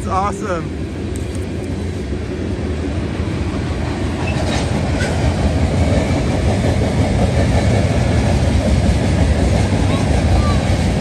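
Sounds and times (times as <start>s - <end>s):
steel train wheels on rail: 0.0s - 11.0s.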